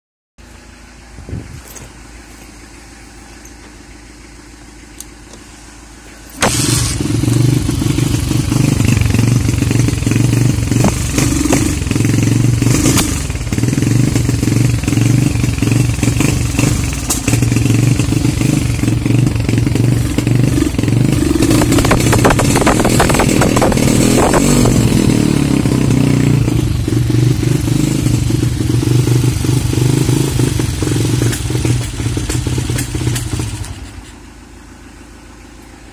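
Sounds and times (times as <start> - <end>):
motorcycle engine running unevenly: 0.5 - 35.9.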